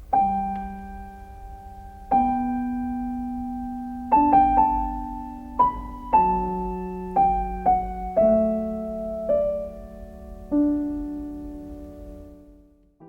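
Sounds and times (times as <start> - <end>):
slow solo piano: 0.0 - 13.0.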